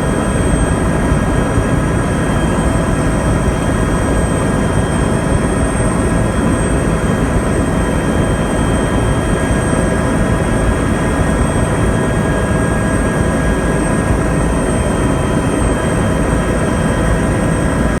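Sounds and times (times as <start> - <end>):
helicopter rumble: 0.0 - 18.0.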